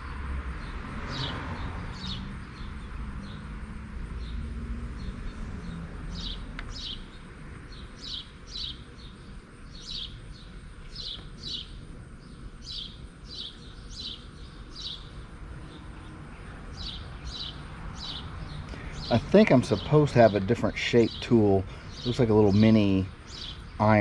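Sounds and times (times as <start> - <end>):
small bird chirping: 0.0 - 3.5, 4.1 - 24.0.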